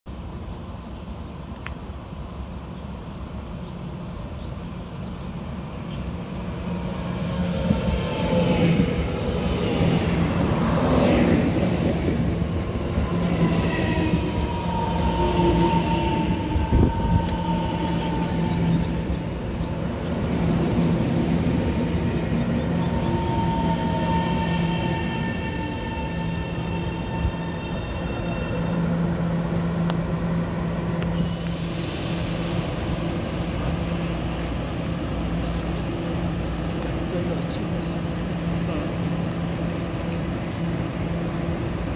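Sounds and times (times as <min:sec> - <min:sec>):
train wheels rumbling on rails: 0:00.2 - 0:41.9.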